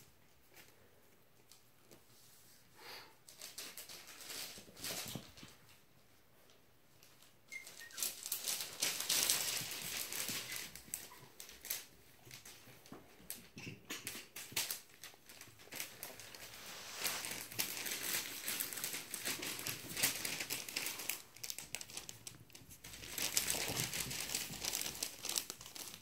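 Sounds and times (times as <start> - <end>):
puppies rustling on carpet: 3.3 - 13.4, 14.4 - 26.0.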